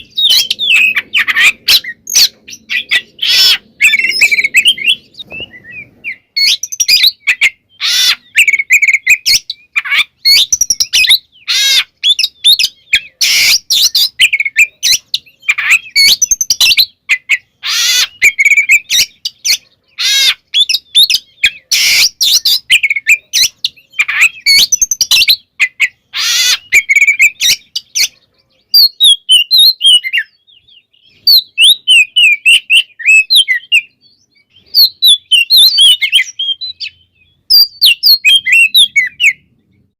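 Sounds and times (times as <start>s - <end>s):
songbird singing harsh notes: 0.0s - 39.9s.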